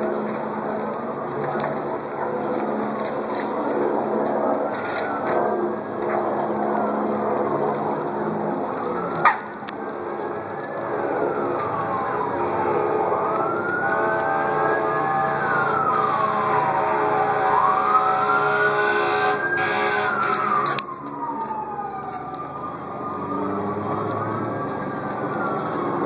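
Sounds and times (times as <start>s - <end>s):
emergency siren wailing: 0.0s - 26.0s.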